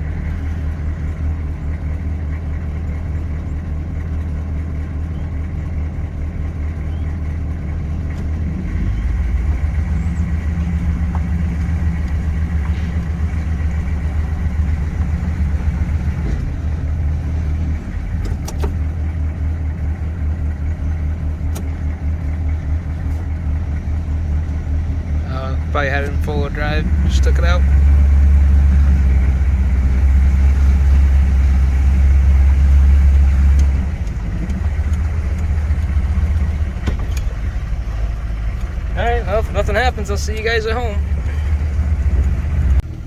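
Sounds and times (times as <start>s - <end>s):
diesel truck engine droning: 0.0s - 43.0s.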